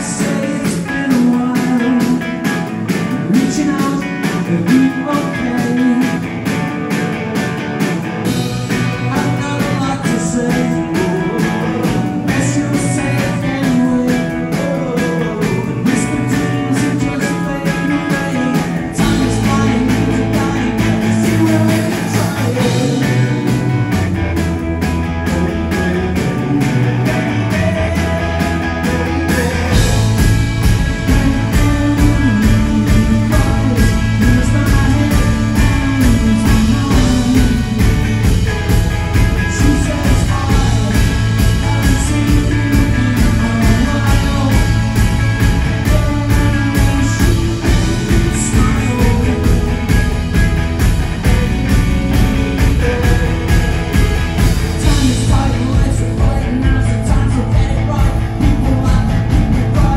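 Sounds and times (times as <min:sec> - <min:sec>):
bass guitar: 0:00.0 - 0:59.9
drums: 0:00.0 - 0:59.9
electric guitar: 0:00.0 - 0:59.9
man singing: 0:00.0 - 0:59.9.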